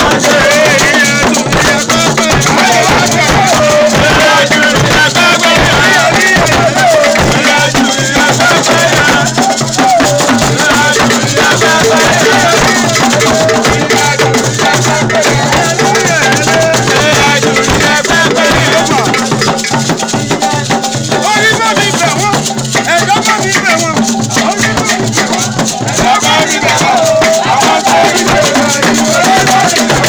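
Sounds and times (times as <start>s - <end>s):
group singing: 0.0s - 30.0s
hand drum beats: 0.0s - 30.0s
shaken rattles: 0.0s - 30.0s.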